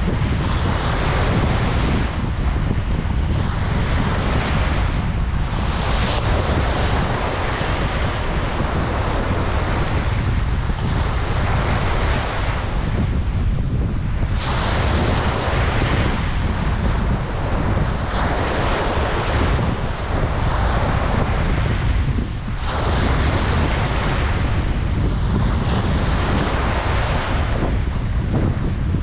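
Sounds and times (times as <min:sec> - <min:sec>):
ocean waves breaking: 0:00.0 - 0:29.0
wind on microphone: 0:00.0 - 0:29.0.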